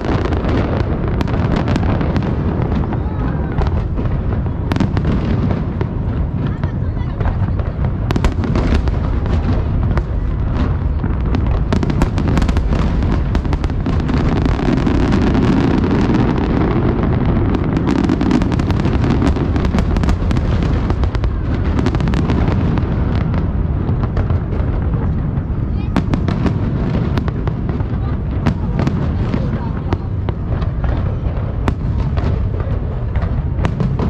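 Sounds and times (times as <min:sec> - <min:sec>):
fireworks booming: 0:00.0 - 0:34.0
fireworks cracks and pops: 0:00.0 - 0:34.0.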